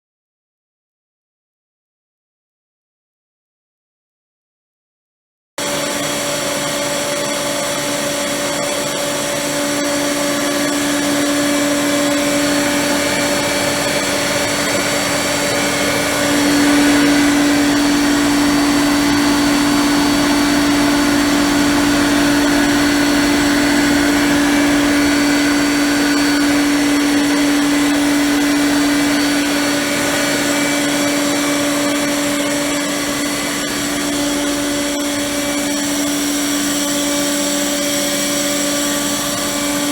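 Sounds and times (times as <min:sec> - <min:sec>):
air compressor hum with whine: 0:05.6 - 0:39.9.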